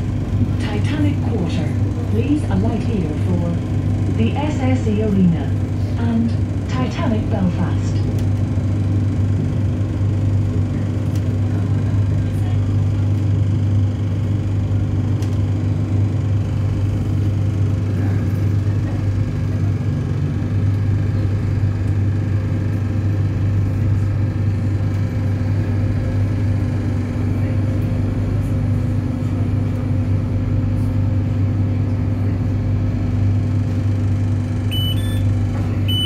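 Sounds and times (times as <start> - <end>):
diesel train drone: 0.0 - 36.0.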